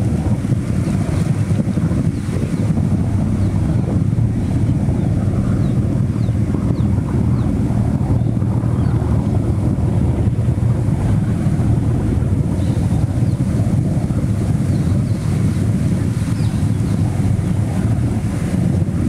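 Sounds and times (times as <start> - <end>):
whirlpool water rushing: 0.0 - 19.0
wind buffeting microphone: 0.0 - 19.0.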